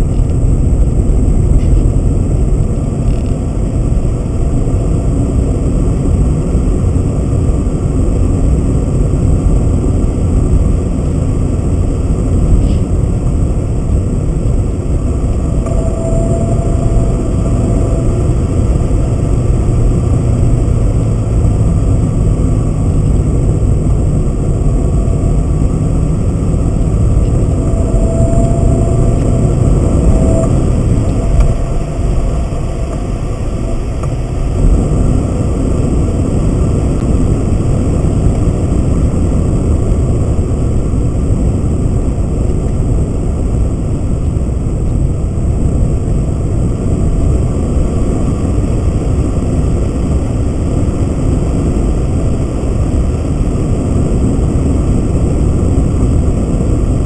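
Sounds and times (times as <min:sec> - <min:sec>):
car engine and tyre road noise: 0:00.0 - 0:57.0.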